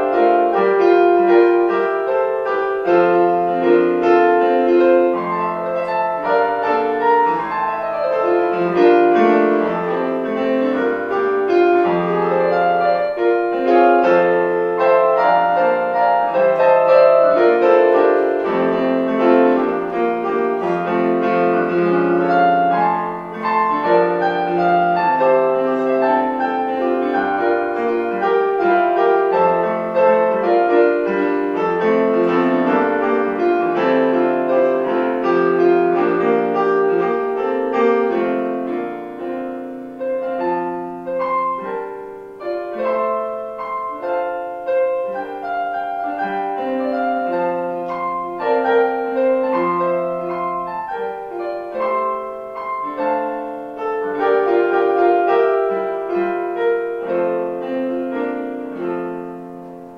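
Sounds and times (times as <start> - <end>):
solo piano chords: 0.0 - 59.9.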